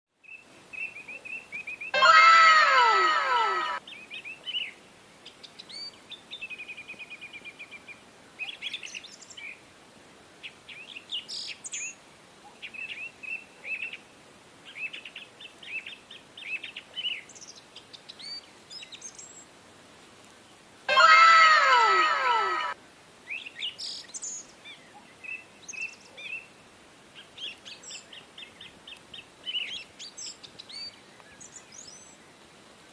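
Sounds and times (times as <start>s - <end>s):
faint steady hiss: 0.1s - 32.9s.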